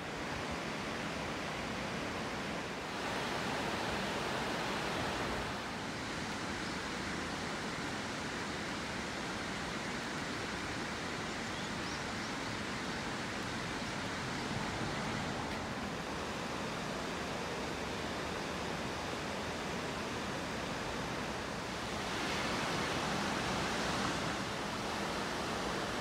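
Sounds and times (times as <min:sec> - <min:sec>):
rain and river water rushing: 0:00.0 - 0:26.0.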